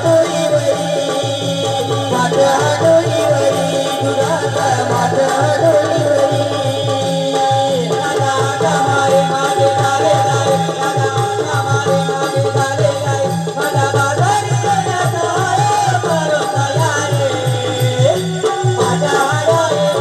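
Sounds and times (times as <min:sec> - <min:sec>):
drum beating: 0:00.0 - 0:20.0.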